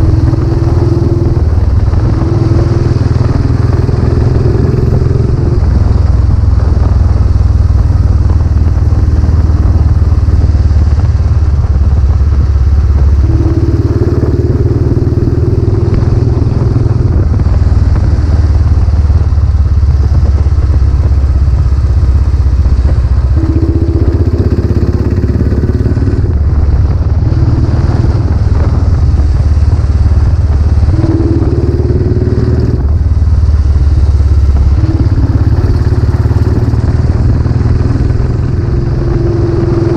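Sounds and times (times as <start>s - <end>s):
higher engine tone: 0.0s - 7.5s, 8.1s - 21.9s, 22.6s - 39.9s
motorcycle engine running: 0.0s - 39.9s.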